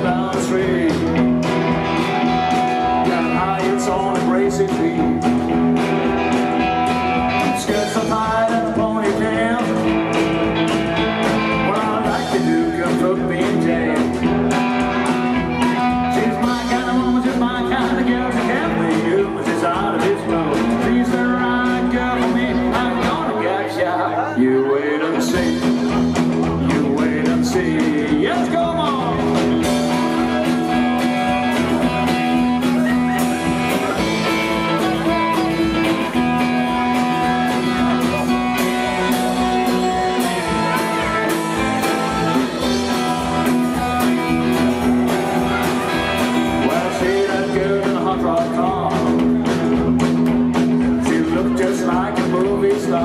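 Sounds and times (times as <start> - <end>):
drum kit: 0.0 - 23.9, 25.0 - 53.0
electric guitars: 0.0 - 53.0.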